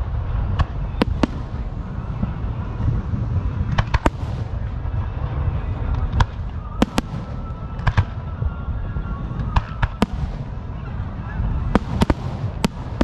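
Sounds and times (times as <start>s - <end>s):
fireworks cracking: 0.0s - 8.3s, 9.3s - 13.0s
distant fireworks rumble: 0.0s - 13.0s.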